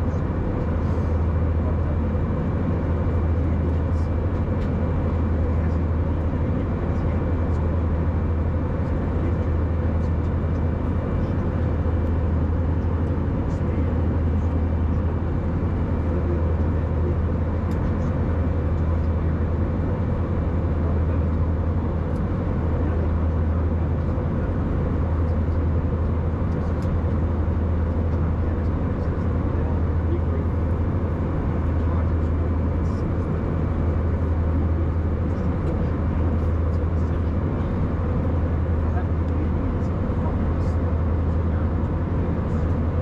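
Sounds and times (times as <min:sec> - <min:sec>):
airplane cabin engine noise: 0:00.0 - 0:43.0
low hum: 0:00.0 - 0:43.0.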